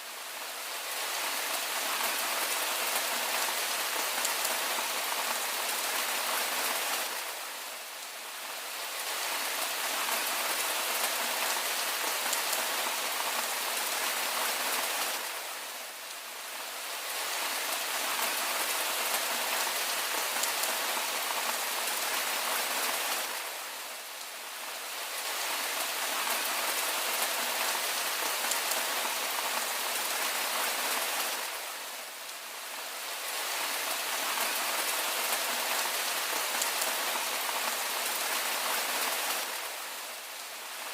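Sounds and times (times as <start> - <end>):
rain falling on a surface: 0.0 - 40.9.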